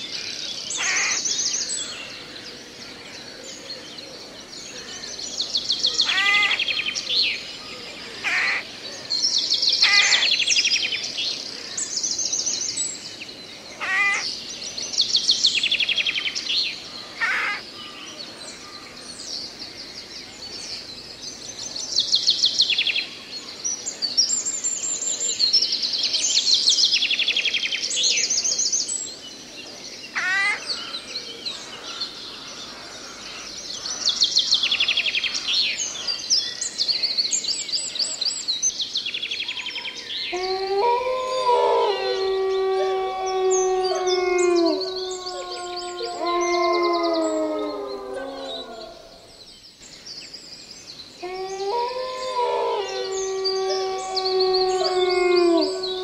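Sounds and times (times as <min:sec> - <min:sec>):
songbirds trilling: 0:00.0 - 0:56.0.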